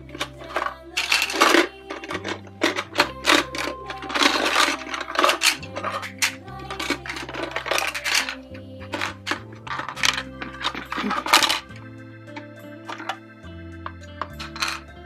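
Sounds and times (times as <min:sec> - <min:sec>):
plastic toy fish clattering: 0:00.0 - 0:11.9, 0:12.8 - 0:13.2, 0:14.2 - 0:14.9
background music with bass: 0:00.0 - 0:15.0.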